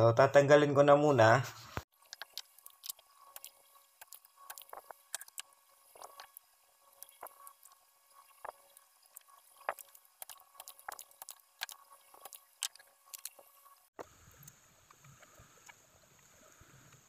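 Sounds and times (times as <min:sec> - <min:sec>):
soldering iron clicks and crackles: 0:02.0 - 0:06.4, 0:07.0 - 0:16.3.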